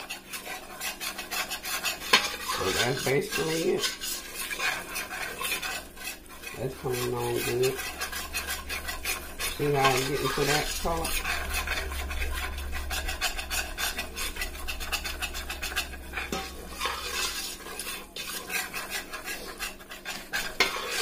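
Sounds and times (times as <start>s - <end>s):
metal spoon scraping a pot: 0.0s - 21.0s.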